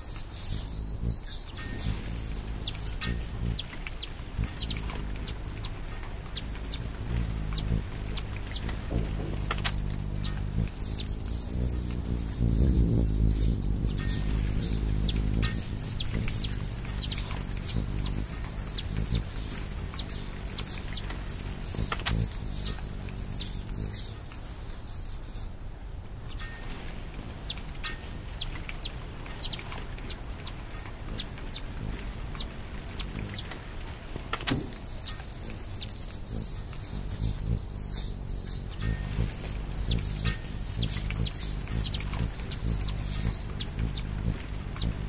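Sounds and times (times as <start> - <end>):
low hum: 0.0 - 24.6, 25.9 - 45.0
bird chirps: 0.0 - 25.5, 26.1 - 45.0
insects trilling: 0.0 - 45.0.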